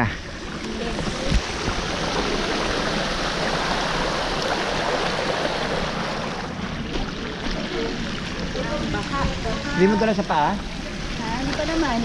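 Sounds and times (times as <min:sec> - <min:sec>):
bike tyres splashing through water: 0:00.2 - 0:12.0.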